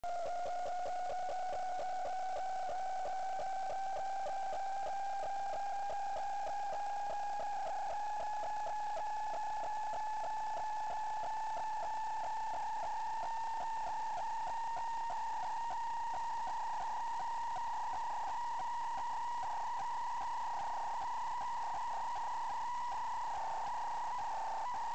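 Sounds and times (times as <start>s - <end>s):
electronic whine with rapid flutter: 0.0s - 24.9s.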